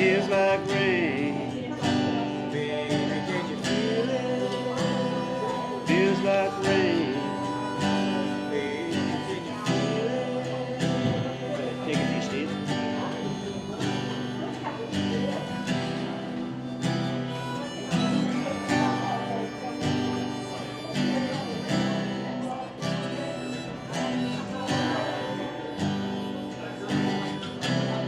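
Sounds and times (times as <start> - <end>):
guitar solo: 0.0 - 28.0
strummed rhythm guitar: 0.0 - 28.0.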